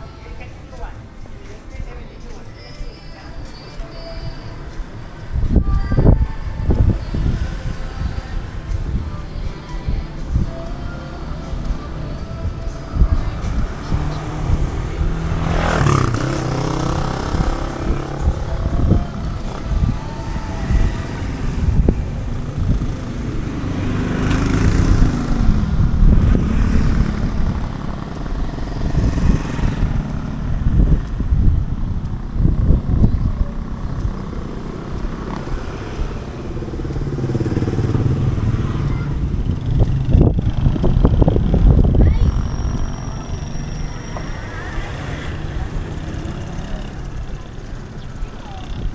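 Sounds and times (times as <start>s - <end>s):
motorcycles passing by: 0.0s - 48.9s
traffic rumble: 0.0s - 48.9s.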